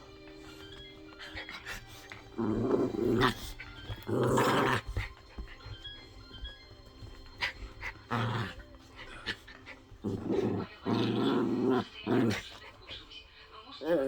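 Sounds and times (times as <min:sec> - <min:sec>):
dogs growling: 0:00.0 - 0:13.2, 0:13.8 - 0:14.0.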